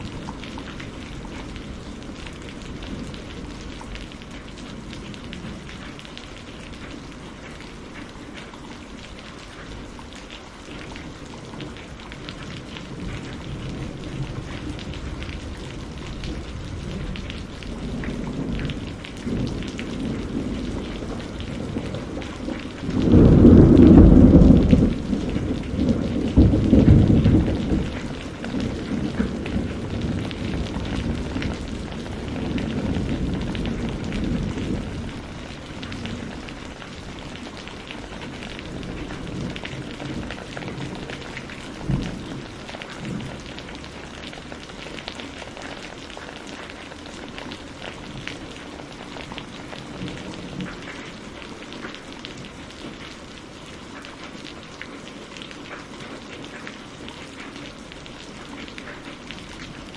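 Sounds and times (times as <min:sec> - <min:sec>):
thunder rumbling and cracking: 0:00.0 - 0:08.0, 0:10.8 - 0:53.0
steady rain hissing: 0:00.0 - 0:59.9.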